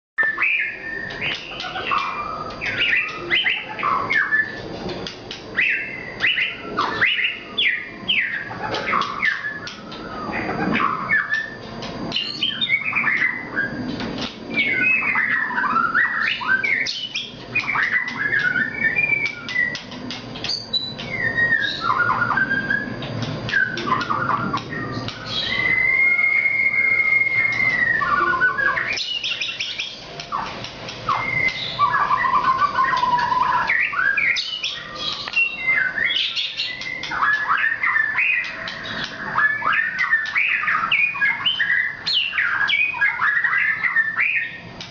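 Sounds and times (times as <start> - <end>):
songbird singing: 0.2 - 44.9.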